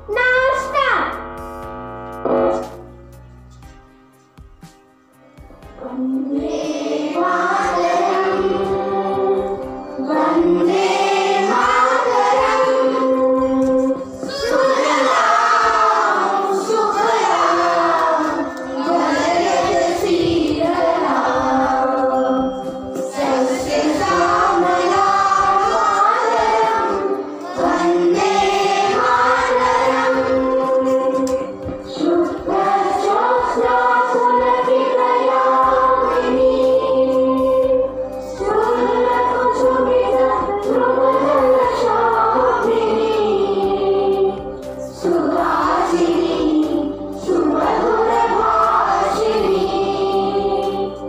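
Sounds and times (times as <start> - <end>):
children singing together: 5.8 - 51.0.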